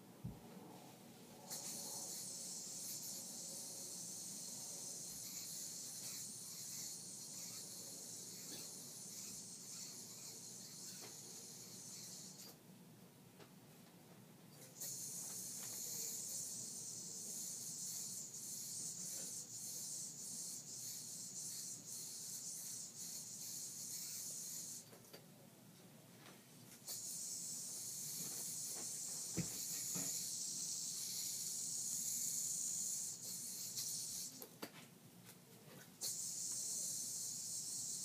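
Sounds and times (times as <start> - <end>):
yo-yo spinning whir: 0.2 - 12.6, 14.5 - 25.0, 26.7 - 34.6, 35.8 - 38.0.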